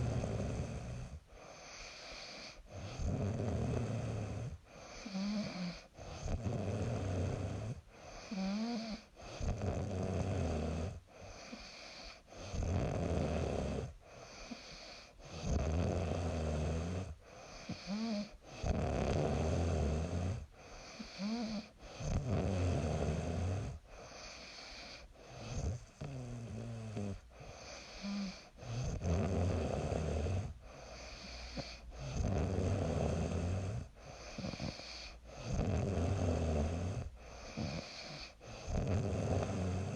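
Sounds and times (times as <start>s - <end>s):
woman snoring: 0.0s - 39.9s.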